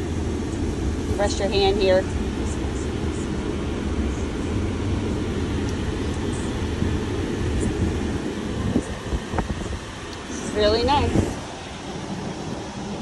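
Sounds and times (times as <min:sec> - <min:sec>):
car cabin rumble and hiss: 0:00.0 - 0:13.0.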